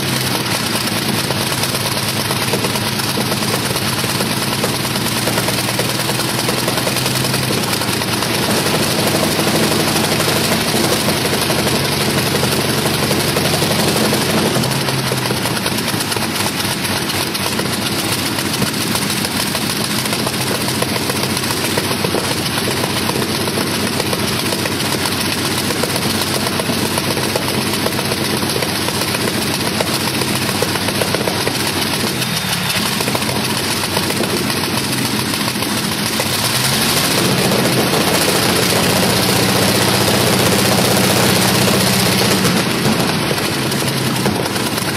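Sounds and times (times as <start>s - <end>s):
aircraft piston engine droning: 0.0s - 44.9s.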